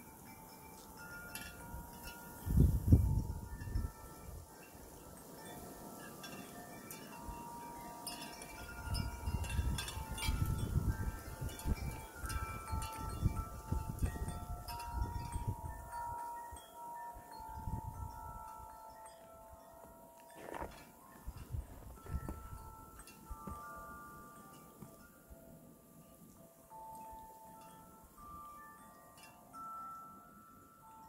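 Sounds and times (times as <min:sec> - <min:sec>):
wind chimes ringing: 0:00.0 - 0:31.0.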